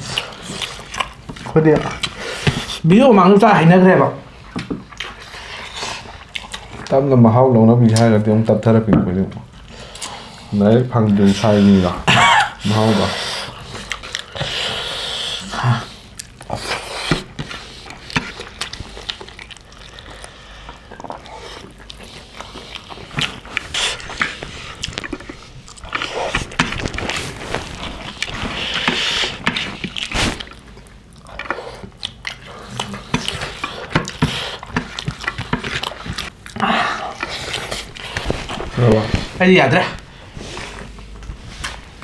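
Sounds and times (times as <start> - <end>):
people chewing: 0.0 - 42.0.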